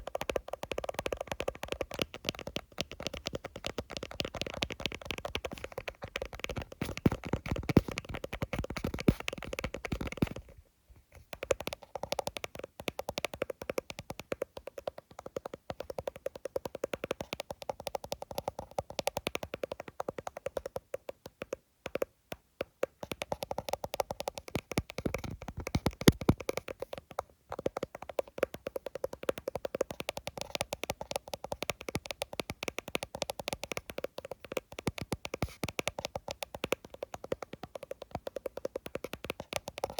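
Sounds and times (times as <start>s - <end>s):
rapid tapping on phone screen: 0.0s - 10.6s, 11.2s - 39.9s.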